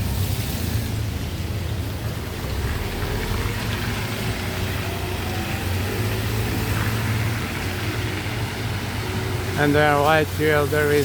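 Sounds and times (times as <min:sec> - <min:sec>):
traffic hiss: 0:00.0 - 0:11.0
vehicle engines running: 0:00.0 - 0:11.0.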